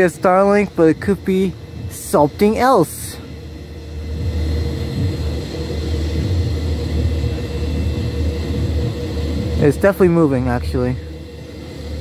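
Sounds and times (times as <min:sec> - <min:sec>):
faint steady hum: 0:00.0 - 0:12.0
low rumble: 0:00.0 - 0:12.0.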